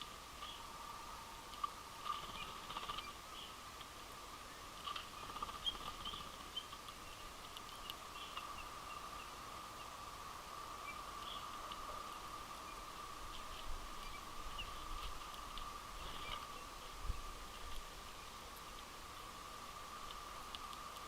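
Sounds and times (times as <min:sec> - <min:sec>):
faint steady tone: 0:00.0 - 0:21.0.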